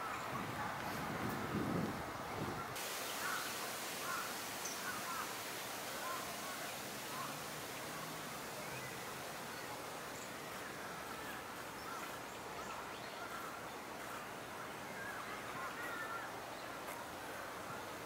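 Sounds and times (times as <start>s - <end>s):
steady outdoor hiss: 0.0s - 18.0s
faint bird calls: 2.4s - 18.0s.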